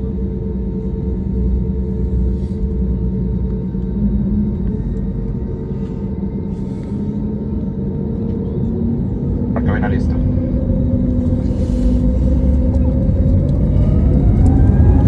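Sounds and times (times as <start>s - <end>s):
airliner cabin drone: 0.0s - 15.0s
faint constant hums: 0.0s - 15.0s.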